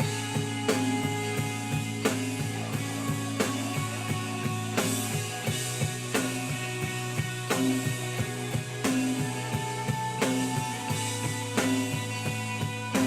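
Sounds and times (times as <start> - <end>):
drum kit beat: 0.0 - 13.0
live rock band playing: 0.0 - 13.0.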